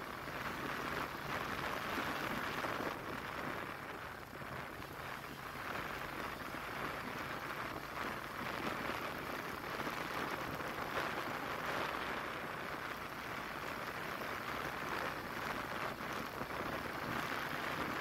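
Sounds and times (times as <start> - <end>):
road and wind noise from vehicle: 0.0 - 18.0.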